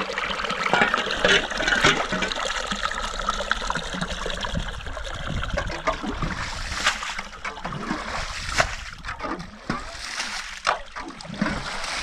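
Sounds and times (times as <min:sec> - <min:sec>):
small water splashes: 0:00.0 - 0:12.0
water trickling: 0:00.0 - 0:12.0.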